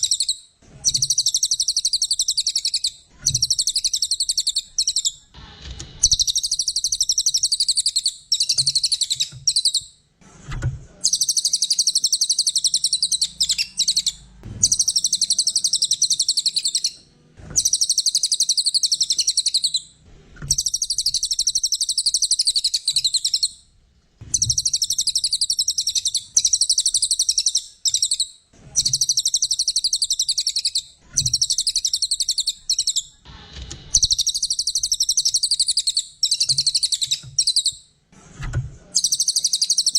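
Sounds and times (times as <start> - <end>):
bird twittering: 0.0 - 5.3, 6.0 - 9.9, 11.0 - 17.0, 17.6 - 19.9, 20.5 - 23.6, 24.3 - 33.2, 33.9 - 37.8, 39.0 - 39.9.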